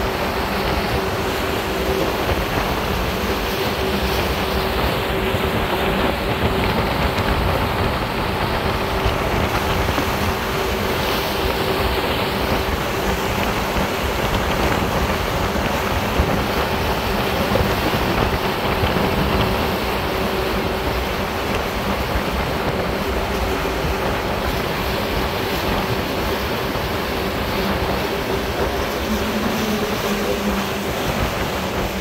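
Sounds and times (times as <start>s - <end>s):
boat diesel engine droning: 0.0s - 32.0s
water rushing along hull: 0.0s - 32.0s
wind: 0.0s - 32.0s.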